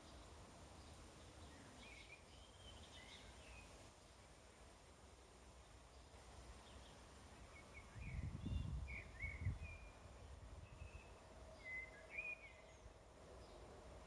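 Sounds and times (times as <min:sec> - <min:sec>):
small birds chirping: 0:00.0 - 0:04.8, 0:05.4 - 0:13.8.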